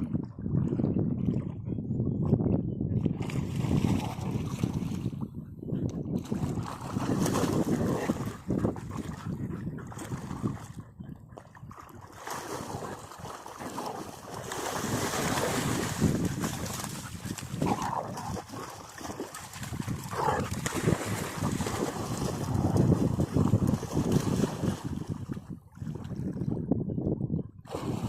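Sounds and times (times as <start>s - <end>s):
water noise: 0.0s - 28.0s
wind: 0.0s - 28.0s.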